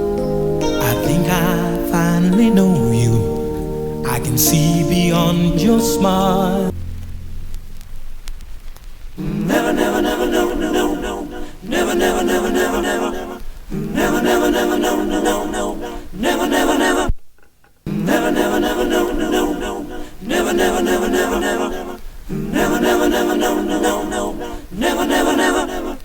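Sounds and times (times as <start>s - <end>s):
chopped singing sample: 0.0s - 7.7s, 9.2s - 17.1s, 17.9s - 26.0s.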